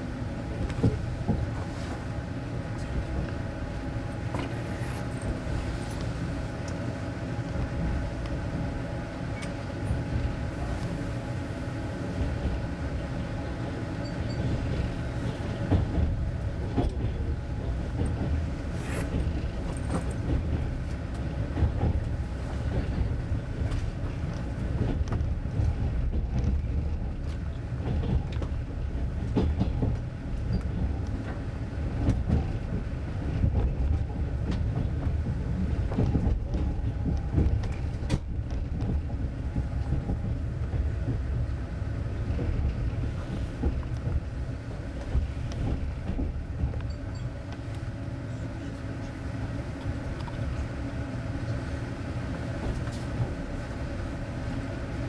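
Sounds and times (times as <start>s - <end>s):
train carriage rumbling on rails: 0.0s - 55.0s.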